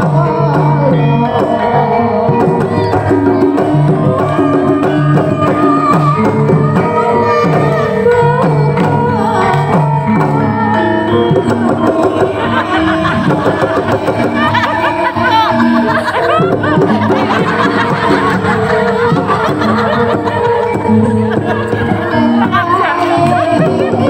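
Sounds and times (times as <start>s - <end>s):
hand drum beats: 0.0s - 24.0s
metallophones ringing a melody: 0.0s - 24.0s.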